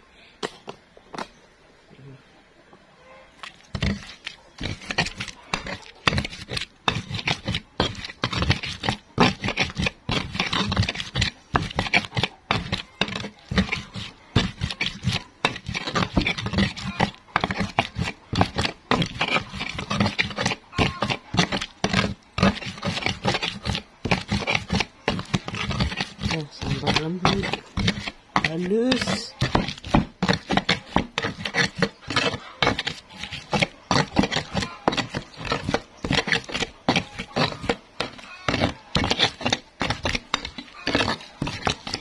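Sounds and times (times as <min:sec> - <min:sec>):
pestle grinding in stone mortar: 0:03.4 - 0:42.0.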